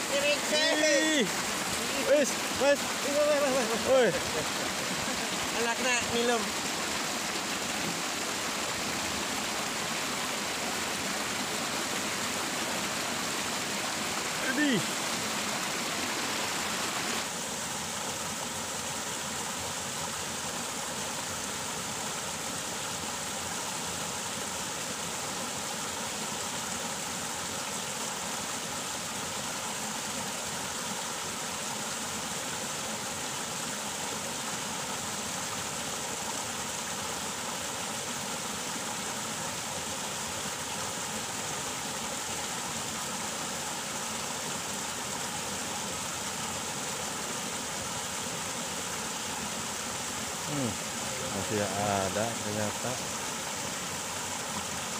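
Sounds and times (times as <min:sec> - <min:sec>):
water rushing over a weir: 0:00.0 - 0:54.9.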